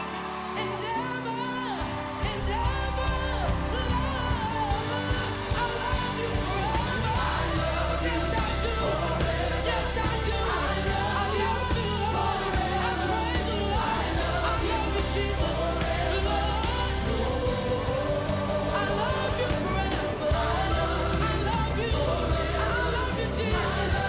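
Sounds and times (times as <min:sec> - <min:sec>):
gospel band playing: 0:00.0 - 0:24.0
man singing into microphone: 0:02.2 - 0:24.0
heavy bass and drums: 0:02.4 - 0:24.0.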